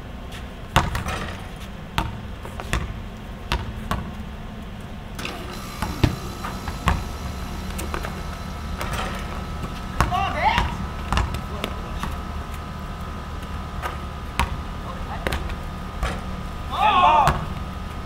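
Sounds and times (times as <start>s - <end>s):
basketballs bouncing on concrete: 0.7s - 4.3s, 5.5s - 16.4s, 17.2s - 17.6s
steady low rumble: 1.8s - 16.8s.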